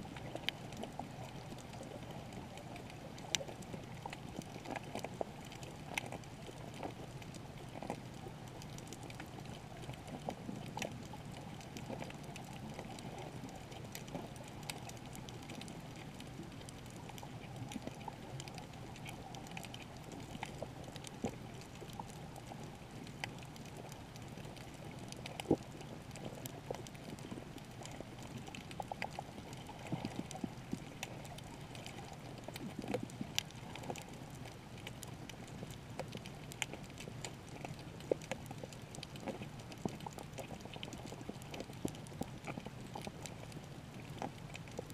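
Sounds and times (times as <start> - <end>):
sharp clicks and crackles: 0.0 - 44.9.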